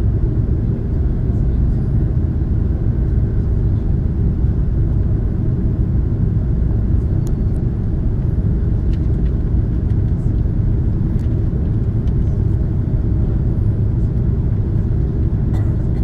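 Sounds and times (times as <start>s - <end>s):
aircraft engines taxiing: 0.0s - 16.0s.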